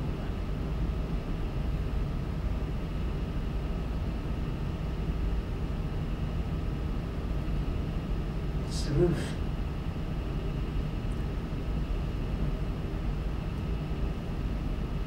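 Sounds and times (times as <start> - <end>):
faint constant hum: 0.0 - 15.0
low room rumble: 0.0 - 15.0.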